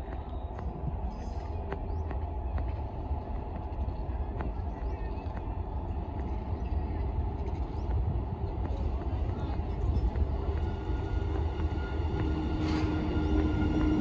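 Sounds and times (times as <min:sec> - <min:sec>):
freight train rumble: 0:00.0 - 0:14.0.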